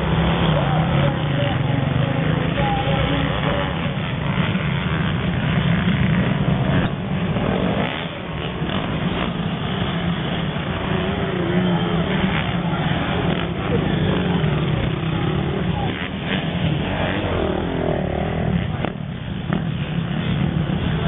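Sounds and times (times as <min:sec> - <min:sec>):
motocross bike engines: 0:00.0 - 0:21.0.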